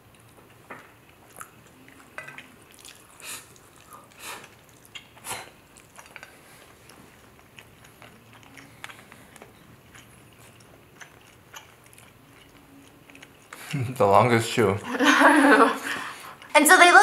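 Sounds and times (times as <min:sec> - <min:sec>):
wet chewing and mouth smacks: 0:00.1 - 0:14.1.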